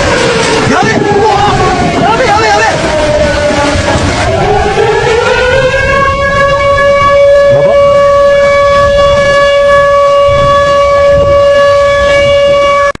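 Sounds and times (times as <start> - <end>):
warning siren: 0.0 - 13.0.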